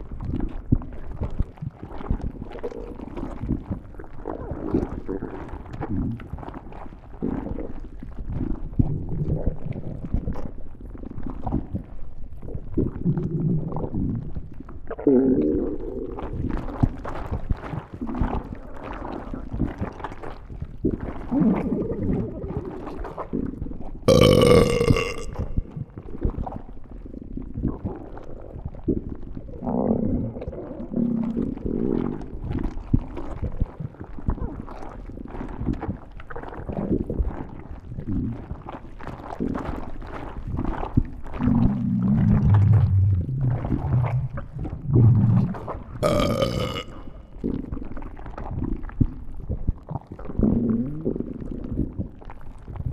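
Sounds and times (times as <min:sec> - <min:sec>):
stomach growling and gurgling: 0:00.0 - 0:52.9.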